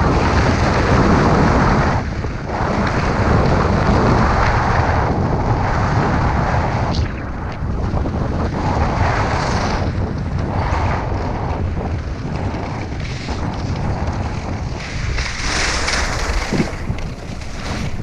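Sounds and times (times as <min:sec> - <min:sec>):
wind buffeting microphone: 0:00.0 - 0:18.0
skis scraping icy snow: 0:00.1 - 0:18.0.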